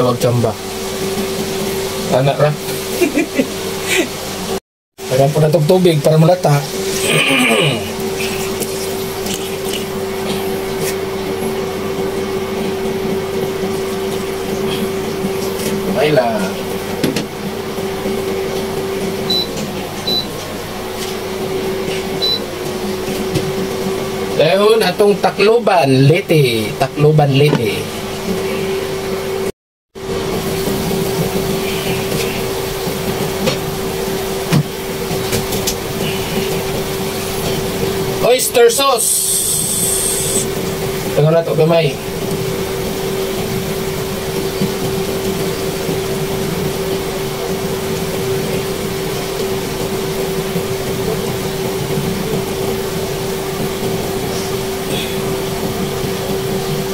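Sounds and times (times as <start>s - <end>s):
machine hum: 0.0s - 56.9s.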